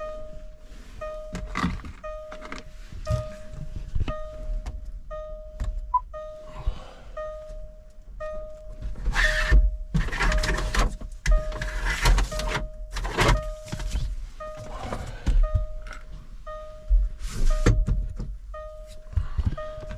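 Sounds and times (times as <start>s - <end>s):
electronic warning beep: 0.0s - 6.6s, 7.2s - 19.9s.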